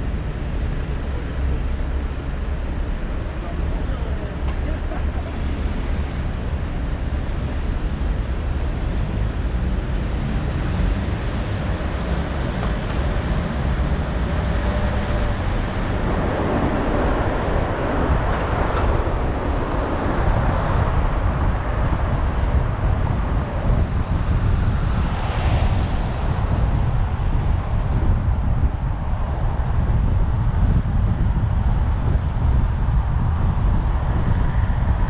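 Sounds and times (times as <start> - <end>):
tyre-on-road noise: 0.0 - 35.0.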